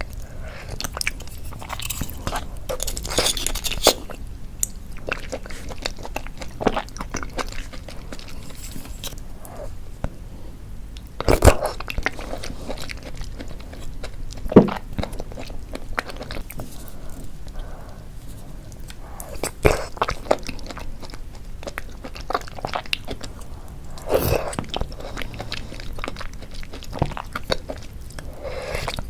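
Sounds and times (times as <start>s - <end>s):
person chewing with wet crackles: 0.0s - 29.0s.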